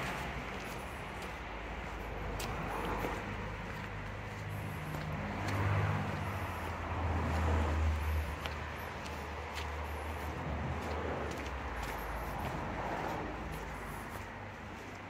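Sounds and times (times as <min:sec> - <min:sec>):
car engine humming: 0:00.0 - 0:15.0
footsteps on cobblestones: 0:00.0 - 0:15.0.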